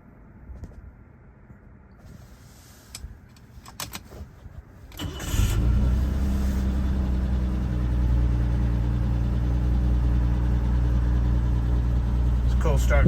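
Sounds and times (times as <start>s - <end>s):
car engine cold start and running: 2.0s - 13.0s.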